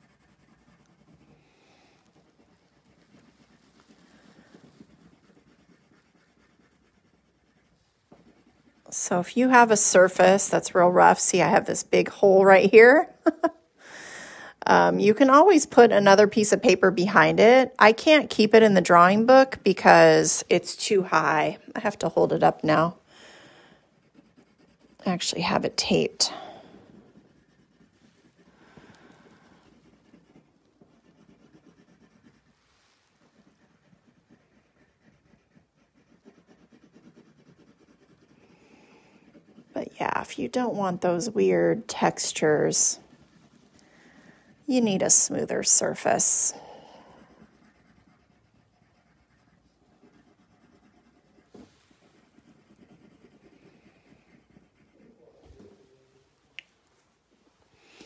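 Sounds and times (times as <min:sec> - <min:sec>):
pencil scratching on paper: 0:00.0 - 0:13.5, 0:14.6 - 0:55.9.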